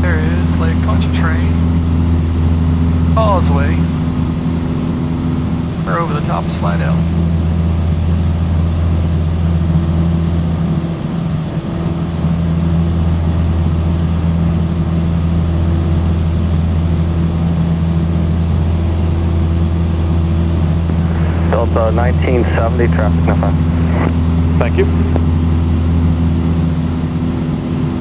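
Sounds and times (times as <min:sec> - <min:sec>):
propeller engine droning: 0:00.0 - 0:28.0.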